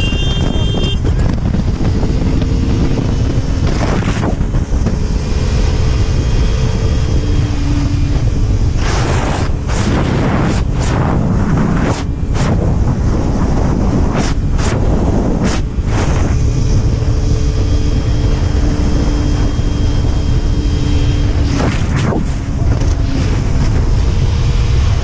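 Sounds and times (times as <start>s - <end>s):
wind buffeting on helmet: 0.0s - 25.0s.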